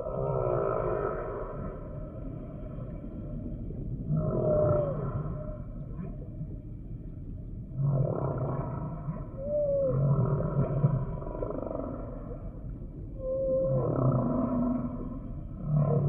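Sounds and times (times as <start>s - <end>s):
whale song: 0.0s - 16.0s.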